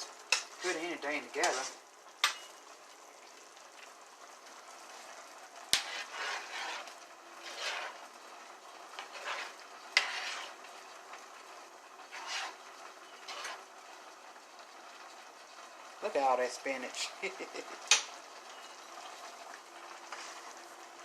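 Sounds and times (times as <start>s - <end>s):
faint sizzle: 0.0s - 21.0s
utensil stirring food in a pan: 0.0s - 21.0s.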